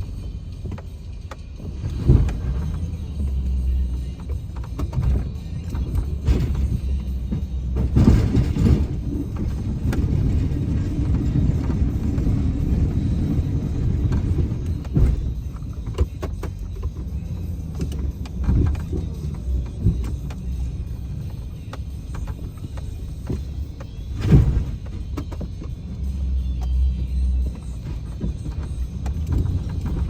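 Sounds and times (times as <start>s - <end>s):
truck engine rumbling: 0.0s - 30.0s
knocks and clunks: 0.5s - 30.0s.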